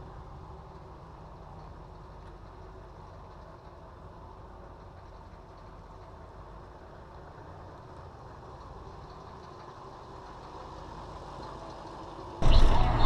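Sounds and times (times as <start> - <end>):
motorhome engine rumble: 0.0 - 13.0
road noise: 0.0 - 13.0.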